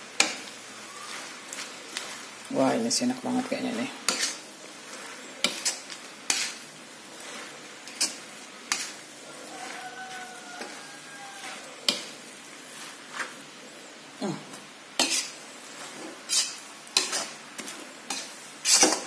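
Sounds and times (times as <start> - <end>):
stir-fry sizzling in a wok: 0.0 - 19.0
spatula knocking and scraping pan: 0.2 - 2.3, 3.2 - 6.6, 7.2 - 13.3, 15.0 - 19.0.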